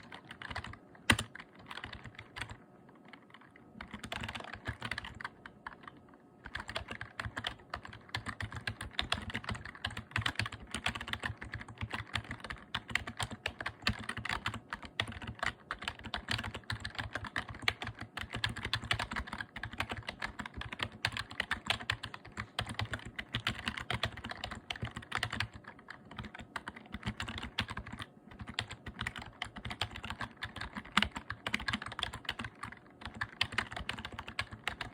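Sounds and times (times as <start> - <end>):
membrane keyboard typing: 0.0 - 34.9.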